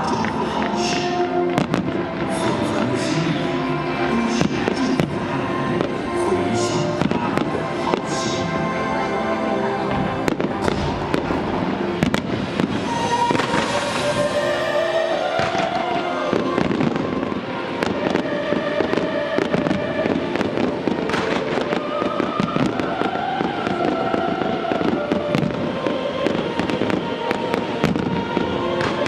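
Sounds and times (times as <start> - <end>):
fireworks cracks and bangs: 0.0 - 3.6, 4.2 - 8.5, 9.9 - 29.0
music playing: 0.0 - 29.0.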